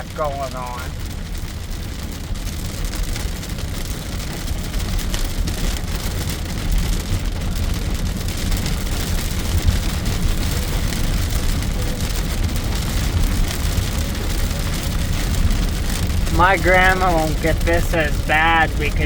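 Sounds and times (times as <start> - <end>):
rain beating on car roof: 0.0 - 19.0
road and engine rumble: 0.0 - 19.0.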